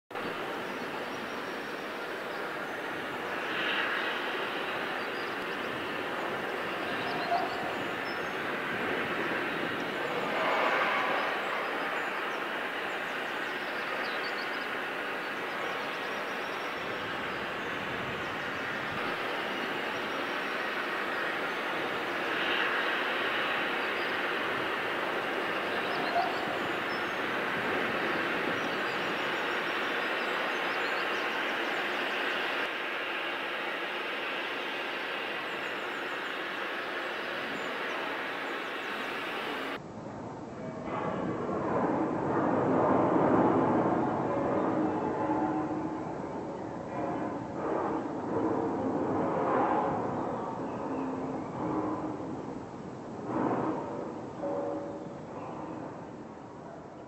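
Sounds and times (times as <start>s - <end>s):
distant machinery rumble: 0.1s - 56.9s
distant harbour mechanical noise: 0.1s - 57.0s.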